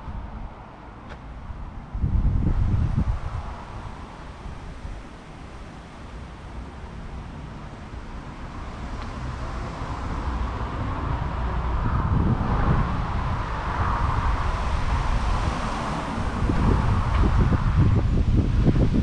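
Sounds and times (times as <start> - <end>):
wind buffeting microphone: 0.0 - 6.7, 8.0 - 19.0
traffic rumble: 0.0 - 19.0.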